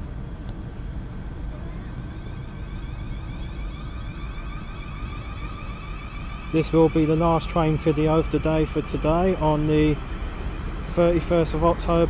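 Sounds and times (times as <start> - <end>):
train low rumble: 0.0 - 12.0
electric train motors whining: 1.1 - 12.0.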